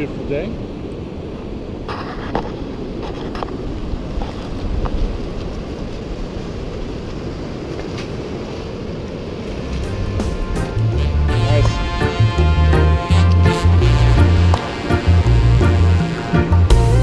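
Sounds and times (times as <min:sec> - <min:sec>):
surf washing on shore: 0:00.0 - 0:16.8
wind buffeting microphone: 0:00.0 - 0:16.8.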